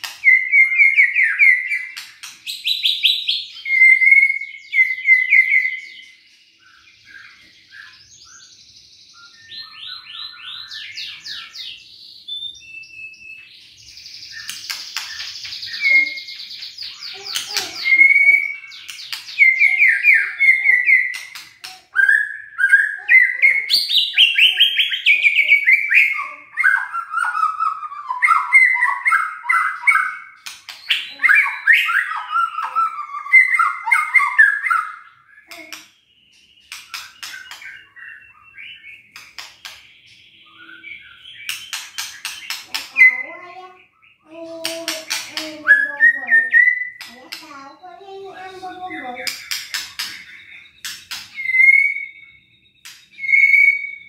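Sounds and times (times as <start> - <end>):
bird singing whistles and trills: 0.0 - 54.0.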